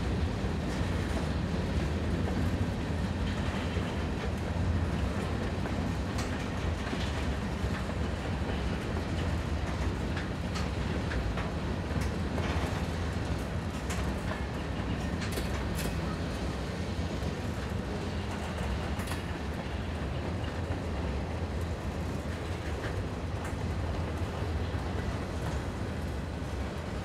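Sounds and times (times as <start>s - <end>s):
train rolling by: 0.0s - 27.0s.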